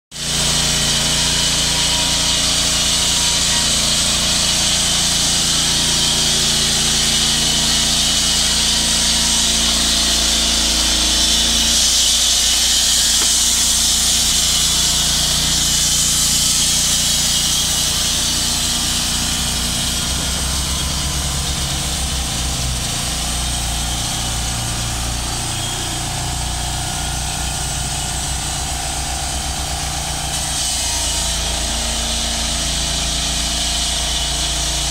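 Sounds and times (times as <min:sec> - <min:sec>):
band blade hissing through wood: 0:00.2 - 0:34.9
sawmill engine under load: 0:00.2 - 0:34.9.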